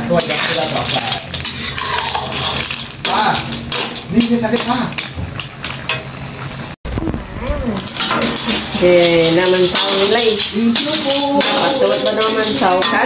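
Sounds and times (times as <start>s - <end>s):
metal ladle scraping a wok: 0.0s - 6.6s, 7.8s - 13.0s.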